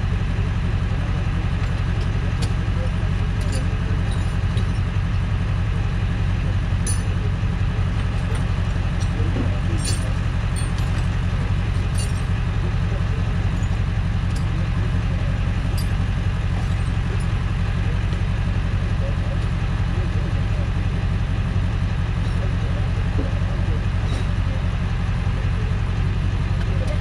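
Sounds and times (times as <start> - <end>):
tow truck engine idling: 0.0 - 27.0.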